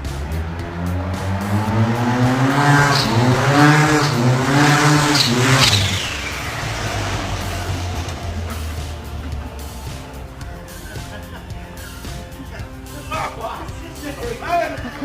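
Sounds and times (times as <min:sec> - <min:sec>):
vehicle engine accelerating: 0:00.0 - 0:13.1.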